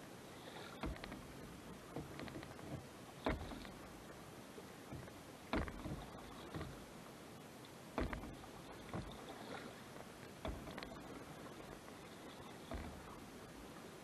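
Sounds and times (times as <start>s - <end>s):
paddle splashing in water: 0.0s - 14.0s
water drips and swishes: 0.0s - 14.0s.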